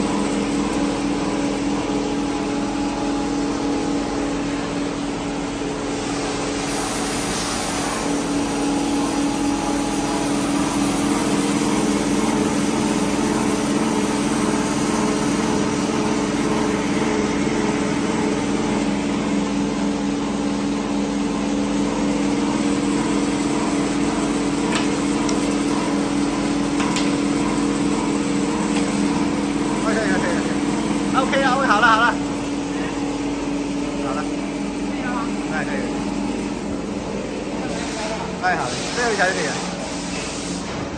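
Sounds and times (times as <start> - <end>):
machine motor hum: 0.0 - 40.9.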